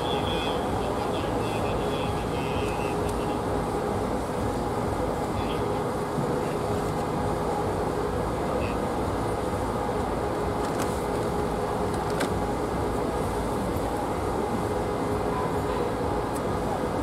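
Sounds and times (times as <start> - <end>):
constant low hum: 0.0 - 17.0
mechanical rumble: 0.0 - 17.0.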